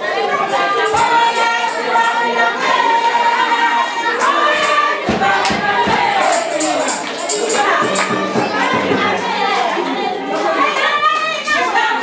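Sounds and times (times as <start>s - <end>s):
congregation singing: 0.0s - 12.0s.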